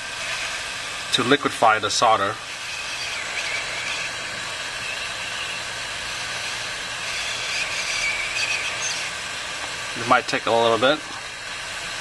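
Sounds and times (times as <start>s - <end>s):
heat gun blowing: 0.0s - 9.9s.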